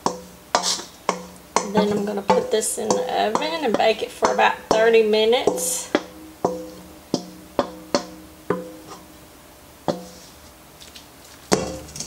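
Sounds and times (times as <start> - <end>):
metal bowl knocking on skillet: 0.0 - 9.2, 9.9 - 10.2, 11.5 - 12.0.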